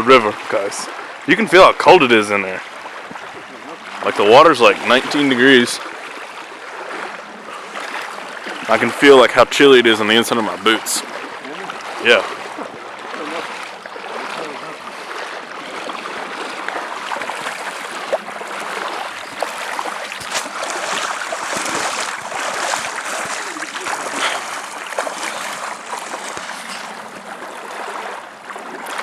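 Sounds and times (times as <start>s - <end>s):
river water flowing: 0.0s - 29.0s
water splashing from wading steps: 0.0s - 29.0s.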